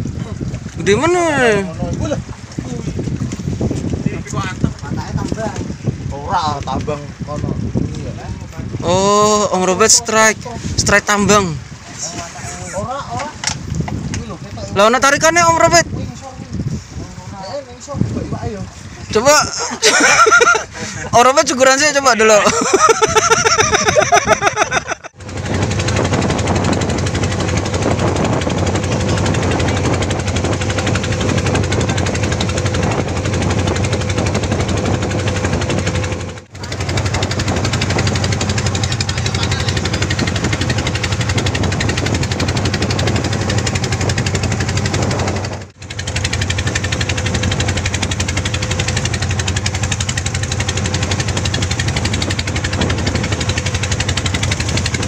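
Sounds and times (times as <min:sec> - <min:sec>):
boat engine knocking: 0:00.0 - 0:55.0.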